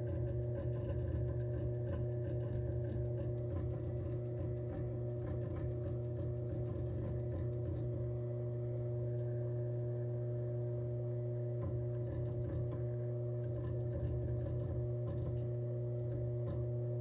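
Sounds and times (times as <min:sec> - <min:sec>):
hard drive droning: 0:00.0 - 0:17.0.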